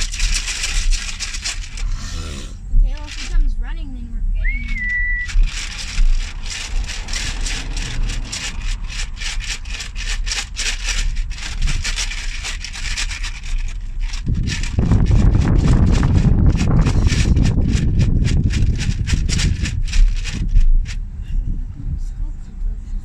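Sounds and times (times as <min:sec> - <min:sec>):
crackling and scraping: 0:00.0 - 0:21.1
low rumble: 0:00.0 - 0:23.0.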